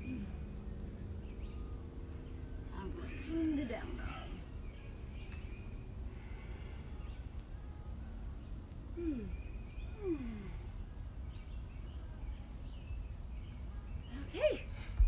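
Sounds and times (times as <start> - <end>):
low rumble: 0.0 - 14.1.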